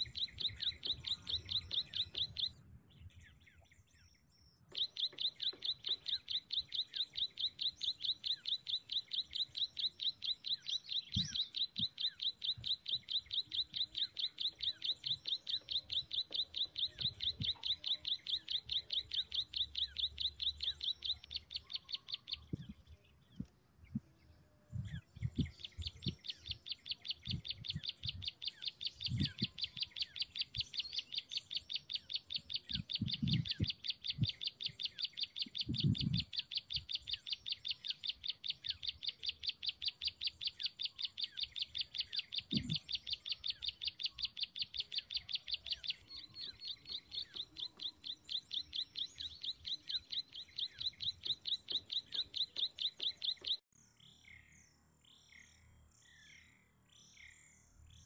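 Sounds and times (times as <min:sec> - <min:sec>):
bird high chirping notes: 0:00.0 - 0:02.6, 0:04.8 - 0:23.1, 0:24.7 - 0:53.6.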